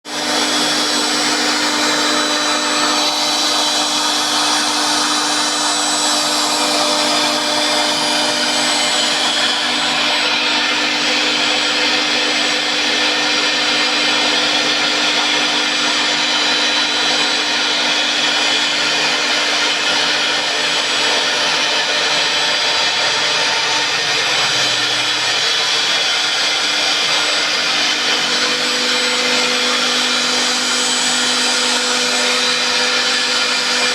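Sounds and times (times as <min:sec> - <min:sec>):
machine motor whine: 0:00.1 - 0:33.9.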